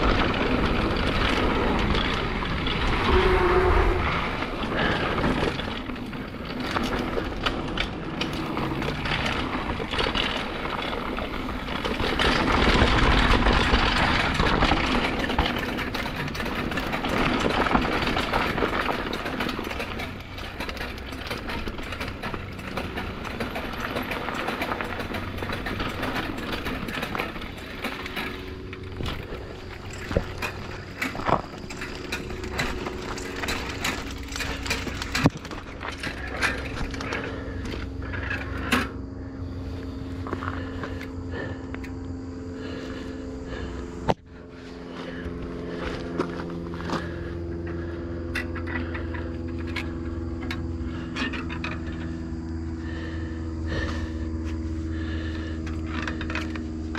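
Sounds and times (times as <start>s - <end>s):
bike rattling and knocking: 0.0s - 56.9s
rushing of tyres and wind: 0.0s - 56.9s.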